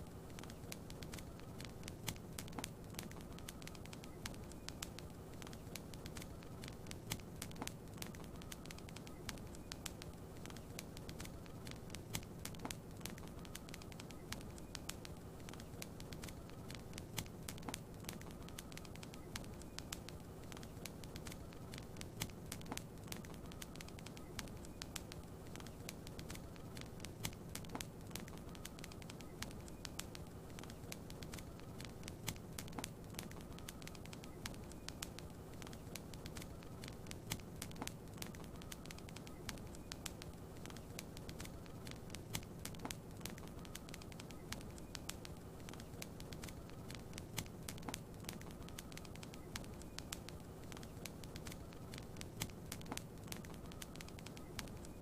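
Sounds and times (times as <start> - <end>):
soft rain hiss: 0.0 - 55.0
wood fire crackling: 0.0 - 55.0.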